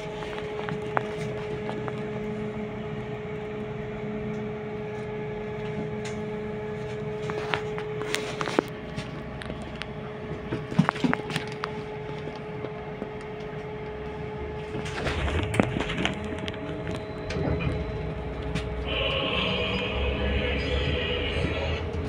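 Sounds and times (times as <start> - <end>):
electrical hum: 0.0 - 22.0
trolleybus rumbling while moving: 0.0 - 22.0.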